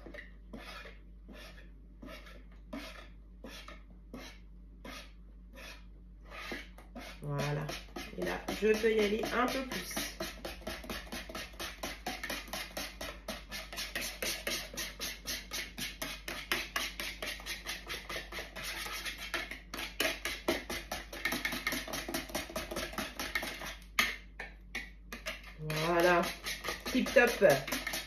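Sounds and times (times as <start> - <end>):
hand whisk beating batter: 0.0 - 28.0.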